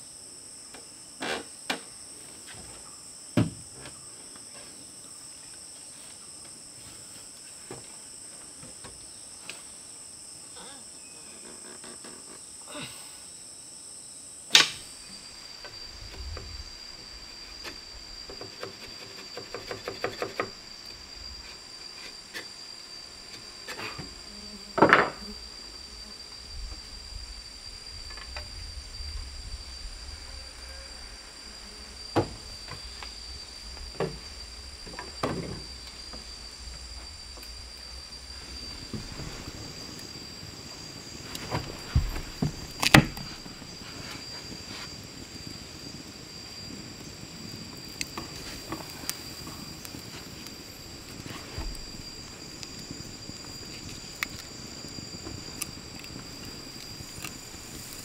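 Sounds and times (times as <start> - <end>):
insects buzzing: 0.0 - 58.0.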